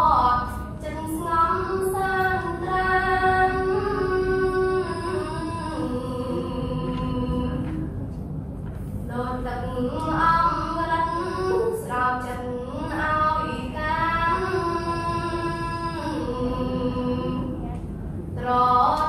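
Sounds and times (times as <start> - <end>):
girl singing unaccompanied: 0.0 - 7.9, 9.1 - 19.0.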